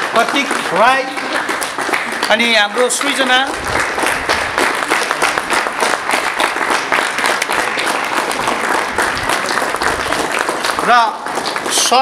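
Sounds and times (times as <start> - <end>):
students applauding: 0.0 - 12.0.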